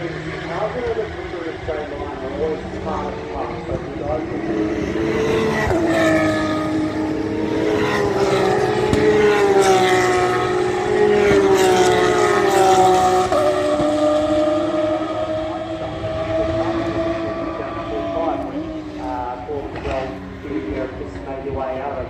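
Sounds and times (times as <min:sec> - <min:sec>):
race car engines revving: 0:00.0 - 0:22.0.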